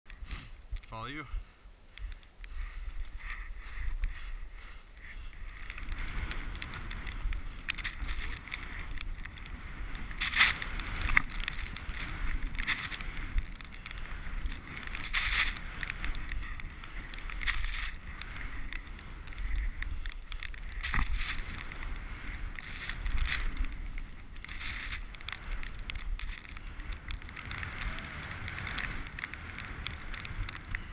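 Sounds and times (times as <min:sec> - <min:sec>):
skis swishing through snow: 0:00.1 - 0:01.3, 0:02.5 - 0:30.9
wind rumble on microphone: 0:00.1 - 0:30.9.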